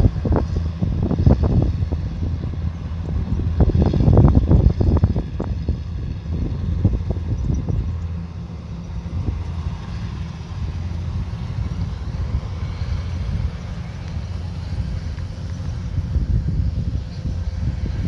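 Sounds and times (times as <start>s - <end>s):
combine harvester engine drone: 0.0s - 18.0s.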